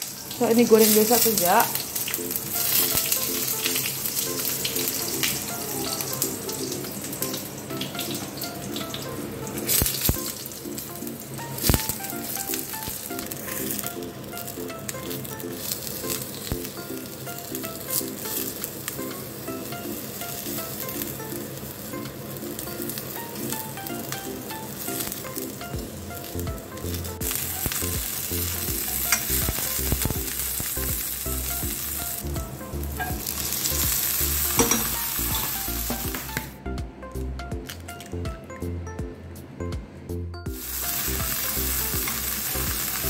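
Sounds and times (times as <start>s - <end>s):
eggplant sizzling in oil: 0.0s - 36.5s, 40.5s - 43.0s.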